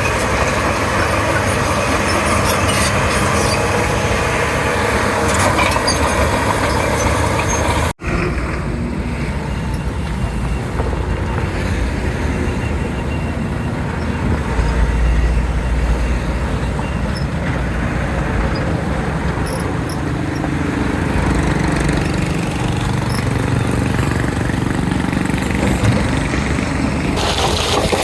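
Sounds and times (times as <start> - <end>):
bulldozer diesel engine rumbling: 0.0 - 28.0.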